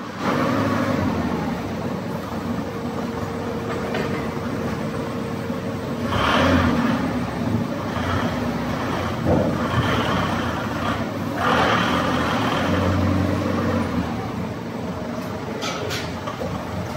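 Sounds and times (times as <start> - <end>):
heavy machinery humming: 0.0 - 16.9.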